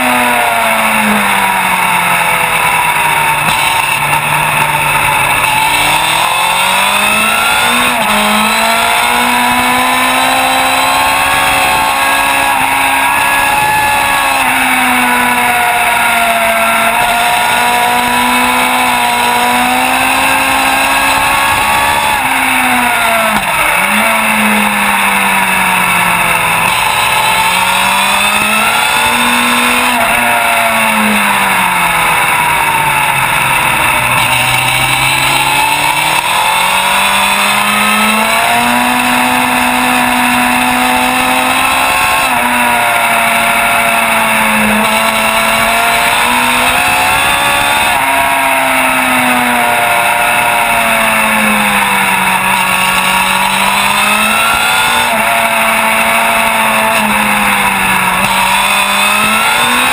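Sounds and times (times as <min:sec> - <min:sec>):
racing motorcycle engine: 0:00.0 - 0:59.9
steady rush of noise: 0:00.0 - 0:59.9.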